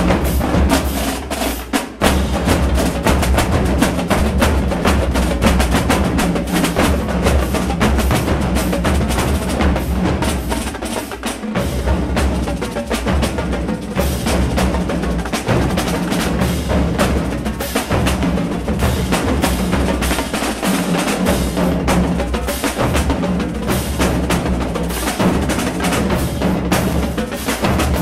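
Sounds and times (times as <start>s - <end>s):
deep bass drum beats: 0.0s - 0.9s, 2.0s - 10.9s, 11.5s - 28.0s
snare and tenor drums: 0.0s - 28.0s.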